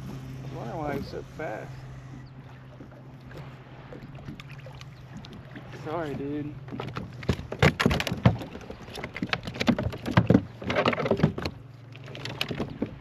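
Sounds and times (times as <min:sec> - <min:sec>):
fish splashing and thrashing: 0:00.0 - 0:13.0.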